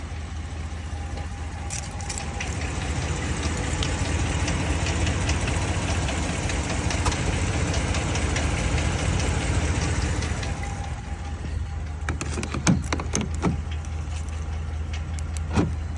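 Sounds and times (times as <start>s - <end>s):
engine idling: 0.0s - 15.9s
engine ticking: 0.0s - 15.9s.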